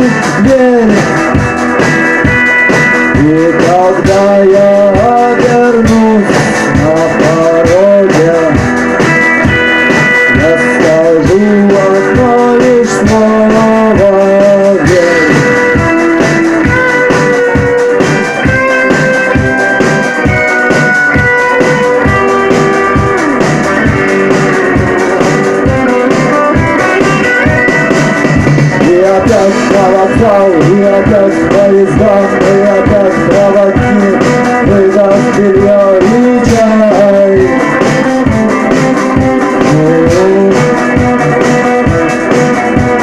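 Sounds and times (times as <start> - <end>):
drums and bass: 0.0 - 43.0
guitar melody with bending notes: 0.0 - 43.0
live rock band playing: 0.0 - 43.0.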